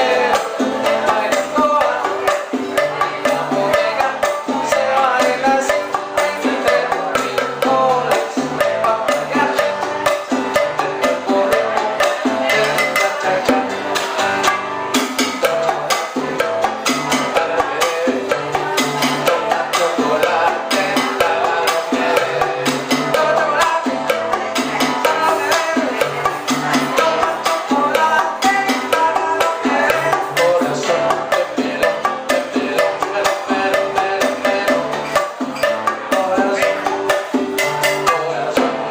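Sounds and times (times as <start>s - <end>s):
band playing dance music: 0.0s - 38.9s
bass line: 0.0s - 38.9s
busy percussion: 0.0s - 38.9s.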